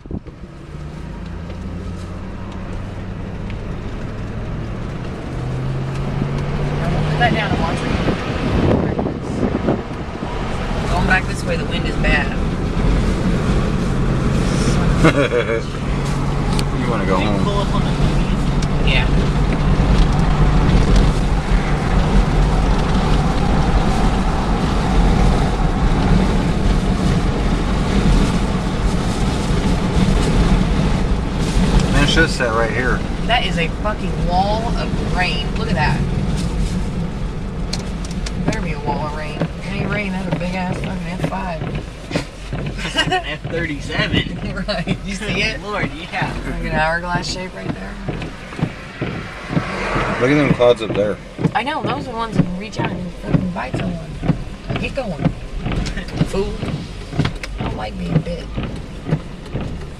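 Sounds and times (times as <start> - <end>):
car engine and road noise: 0.0 - 59.9
moving vehicle rumble: 0.0 - 59.9
wind buffeting microphone: 0.0 - 59.9.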